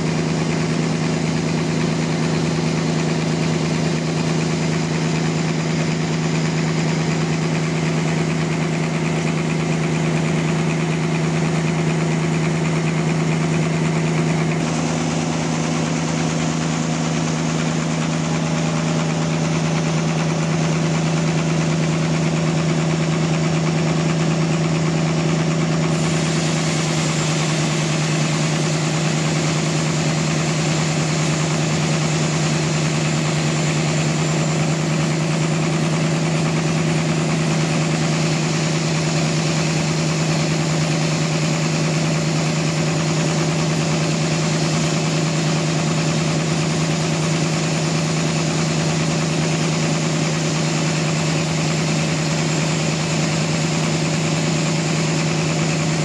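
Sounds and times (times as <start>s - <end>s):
band sawmill sawing log: 7.2s - 56.0s.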